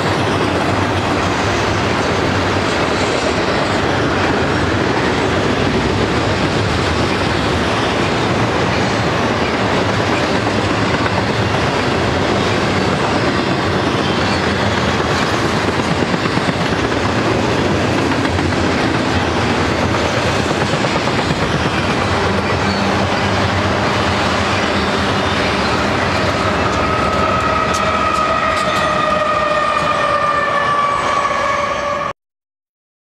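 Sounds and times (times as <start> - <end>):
wheels clickety-clack: 0.0 - 29.9
freight train wheels rumbling: 0.0 - 32.1.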